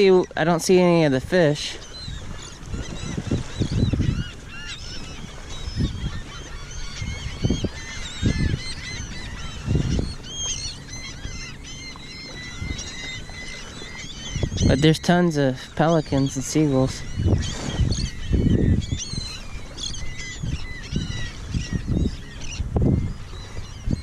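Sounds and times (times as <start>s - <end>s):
wind gusts on microphone: 0.0s - 11.6s, 12.2s - 24.0s
seagulls calling: 0.0s - 24.0s.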